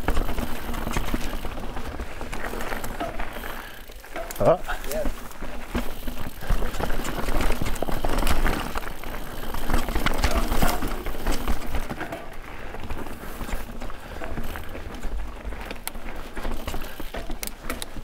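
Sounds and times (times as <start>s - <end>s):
bike rattling and knocking: 0.0s - 18.0s
tyres over dirt and rock: 0.0s - 18.0s.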